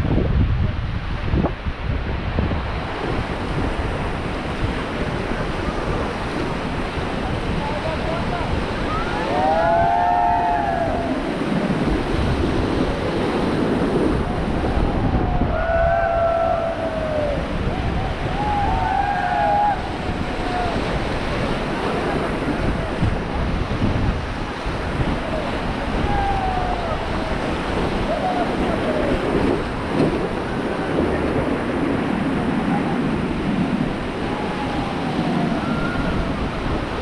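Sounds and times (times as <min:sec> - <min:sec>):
wind buffeting microphone: 0:00.0 - 0:37.0
whitewater rushing: 0:01.0 - 0:37.0.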